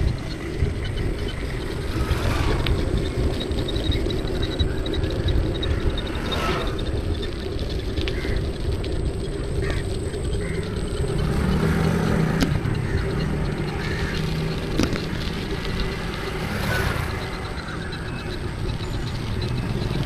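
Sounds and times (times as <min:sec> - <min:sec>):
low engine hum: 0:00.0 - 0:20.0
wind and road noise: 0:00.0 - 0:20.0.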